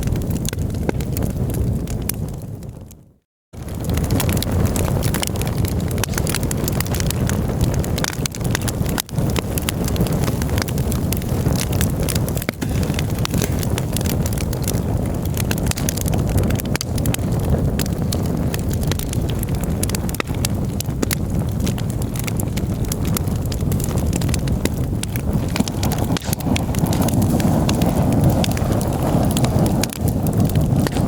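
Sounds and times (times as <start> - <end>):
campfire crackling and popping: 0.0 - 31.0
low fire rumble: 0.0 - 31.0.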